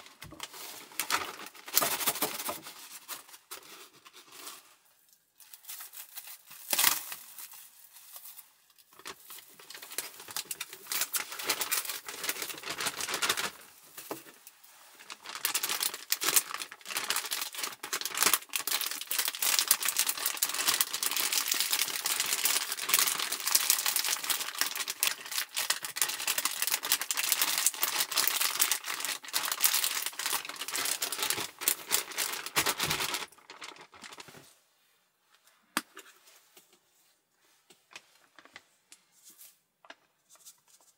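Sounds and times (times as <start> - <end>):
plastic bag crinkling: 0.0 - 34.4.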